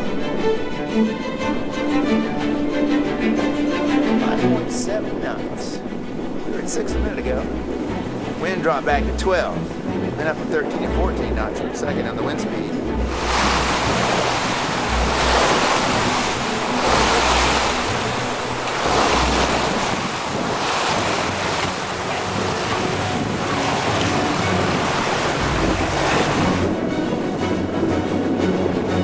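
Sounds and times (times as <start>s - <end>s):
water splashing along a hull: 0.0s - 29.0s
wind buffeting microphone: 0.0s - 29.0s.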